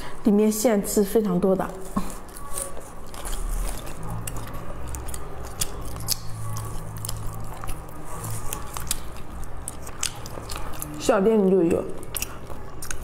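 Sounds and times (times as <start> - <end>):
chewing sticky pastry: 0.1 - 13.0.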